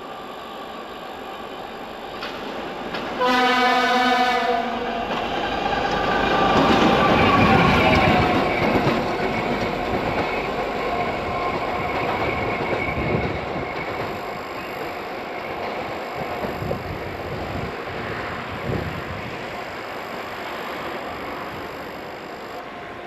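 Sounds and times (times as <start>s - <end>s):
diesel locomotive passing: 0.0s - 23.0s.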